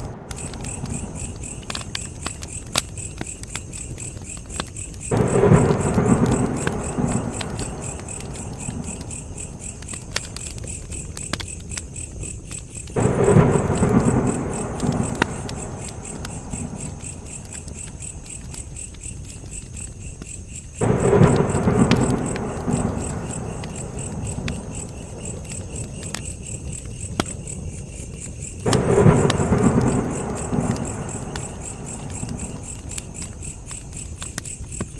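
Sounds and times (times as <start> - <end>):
campfire crackling and popping: 0.0 - 34.9
crickets chirring: 0.0 - 34.9.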